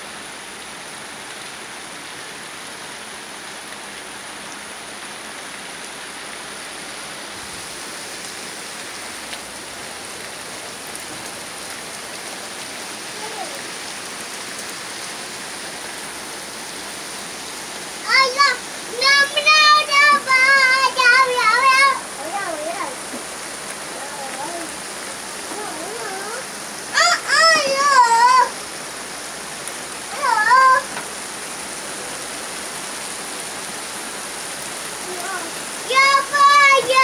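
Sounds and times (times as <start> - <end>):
rain on ground and cars: 0.0 - 37.0.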